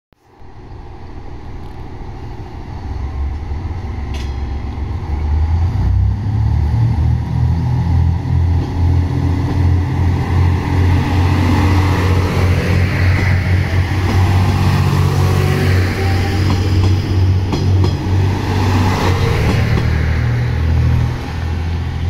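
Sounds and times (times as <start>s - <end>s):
diesel railcar engines revving: 0.2s - 22.0s.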